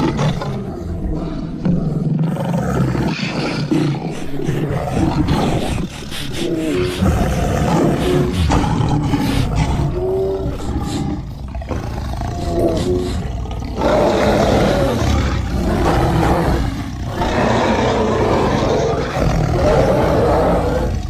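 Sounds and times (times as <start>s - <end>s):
animal roaring and growling: 0.0s - 21.0s.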